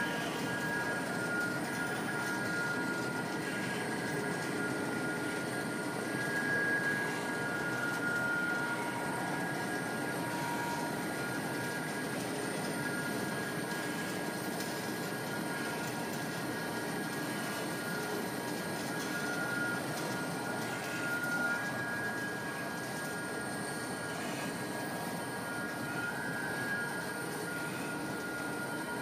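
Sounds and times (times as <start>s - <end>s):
high-pitched whine: 0.0s - 29.0s
steady machine noise: 0.0s - 29.0s.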